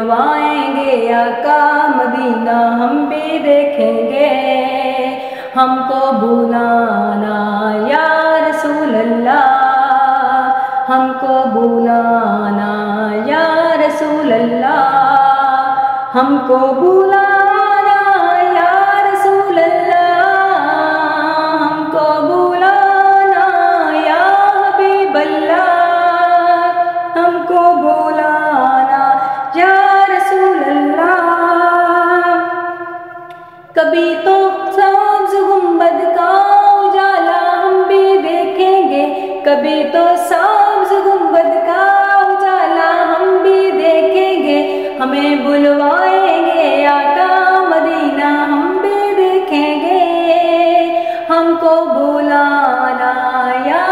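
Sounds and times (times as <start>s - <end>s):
woman singing unaccompanied: 0.0s - 53.9s.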